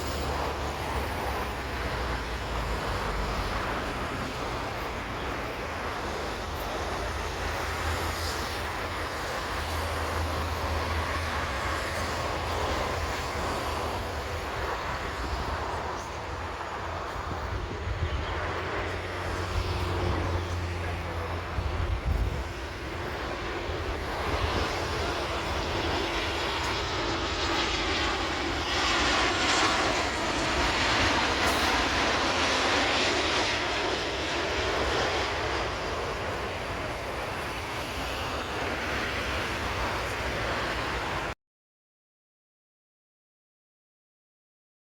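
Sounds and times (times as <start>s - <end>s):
jet airliner passing overhead: 0.0s - 41.4s.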